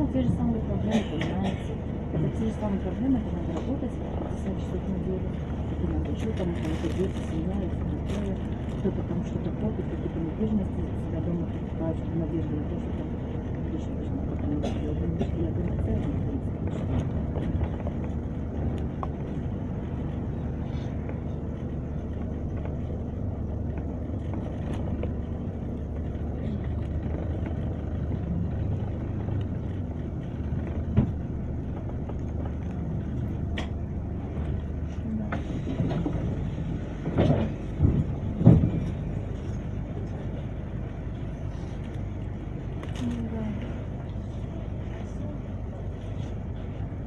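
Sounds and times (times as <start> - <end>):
bus engine rumble: 0.0 - 47.0.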